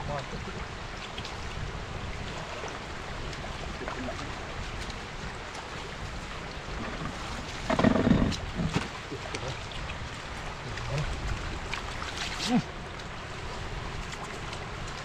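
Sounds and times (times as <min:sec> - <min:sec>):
floodwater running across road: 0:00.0 - 0:15.0.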